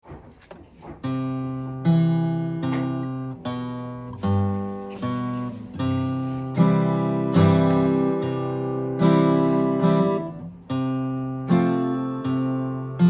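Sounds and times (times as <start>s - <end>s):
acoustic guitar melody: 0.0s - 13.0s.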